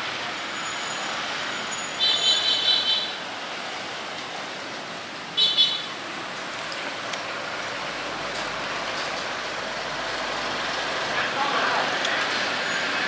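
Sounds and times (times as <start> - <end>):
passing traffic: 0.0 - 13.0
street noise hiss: 0.0 - 13.0.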